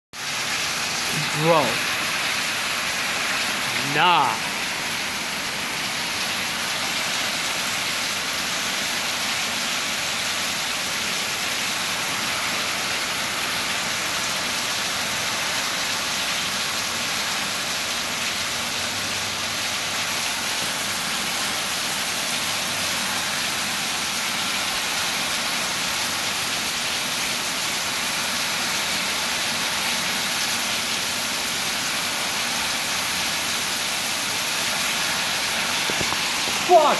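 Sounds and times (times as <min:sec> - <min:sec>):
heavy rain pouring: 0:00.2 - 0:36.9.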